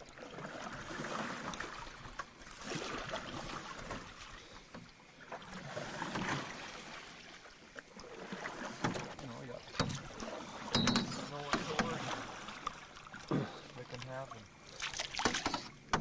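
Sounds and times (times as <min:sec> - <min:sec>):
paddle splashing in water: 0:00.0 - 0:16.0.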